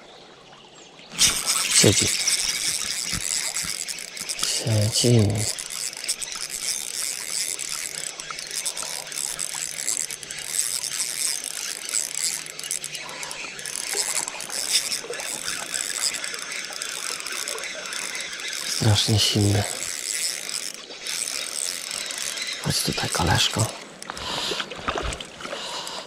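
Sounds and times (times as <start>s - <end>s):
fishing reel ratcheting: 1.1s - 26.0s.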